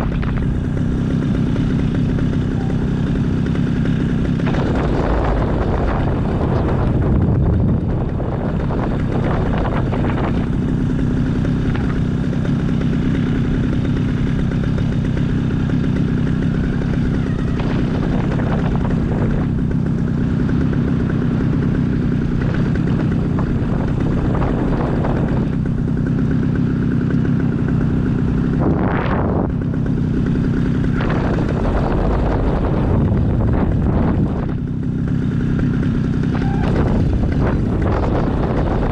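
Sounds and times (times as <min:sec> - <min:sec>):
light aircraft engine running: 0:00.0 - 0:38.9.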